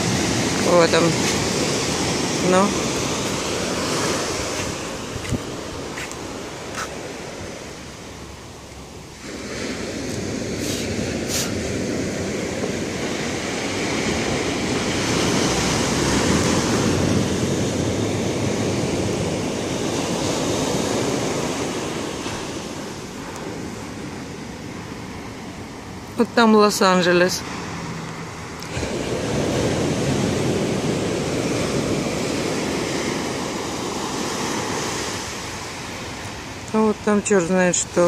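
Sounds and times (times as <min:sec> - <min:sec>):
ocean surf washing up beach: 0:00.0 - 0:38.0.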